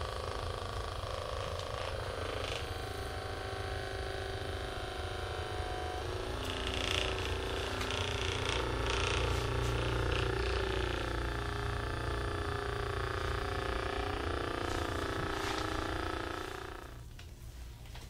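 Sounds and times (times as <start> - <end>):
massage gun buzzing: 0.0 - 17.4.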